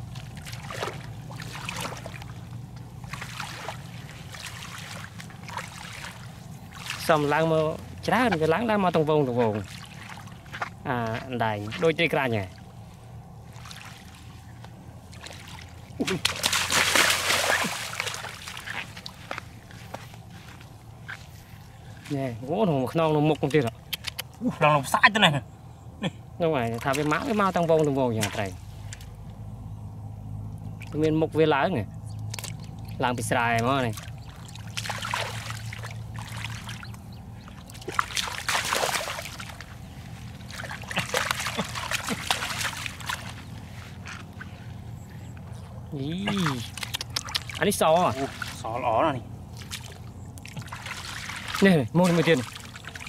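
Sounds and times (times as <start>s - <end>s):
water splashing: 0.0s - 24.6s, 26.5s - 29.3s, 30.4s - 53.0s.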